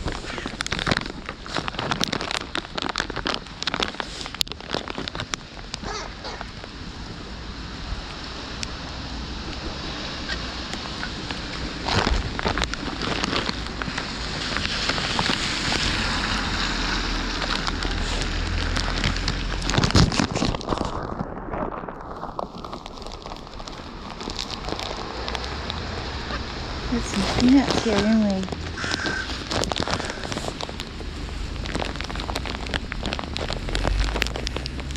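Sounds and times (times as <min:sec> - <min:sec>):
rain falling: 0:00.0 - 0:34.9
raindrops ticking near microphone: 0:00.0 - 0:34.9
rushing noise with low rumble: 0:00.0 - 0:34.9.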